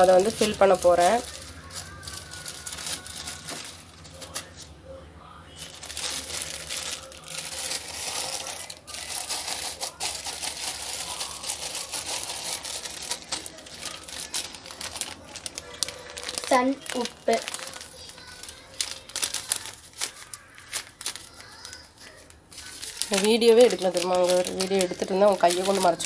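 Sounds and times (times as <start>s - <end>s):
plastic packet crinkling: 0.0s - 4.7s, 5.6s - 26.0s.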